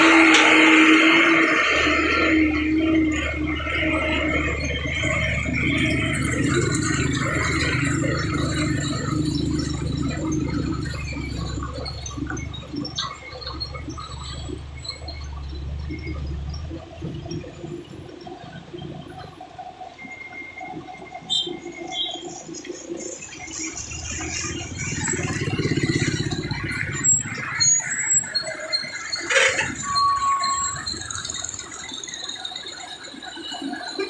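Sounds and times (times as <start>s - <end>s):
truck diesel engine rumbling: 0.0s - 19.2s, 23.5s - 32.0s.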